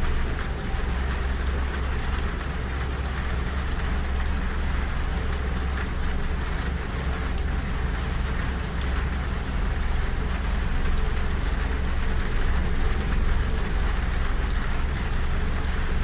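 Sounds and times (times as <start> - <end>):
rain on a window: 0.0 - 16.0.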